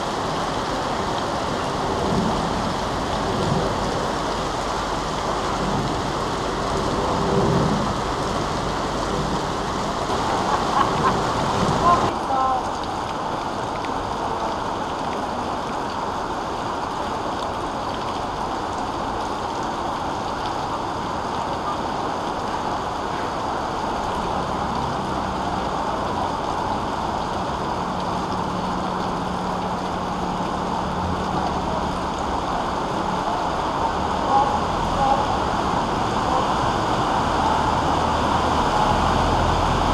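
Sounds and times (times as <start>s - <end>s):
heavy rain: 0.0s - 39.9s
running floodwater: 0.0s - 39.9s.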